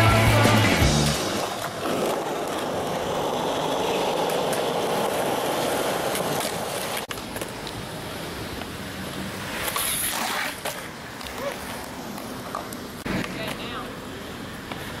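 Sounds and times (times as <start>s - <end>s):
skateboard wheels rolling on concrete: 0.0s - 15.0s
faint background noise: 1.4s - 15.0s.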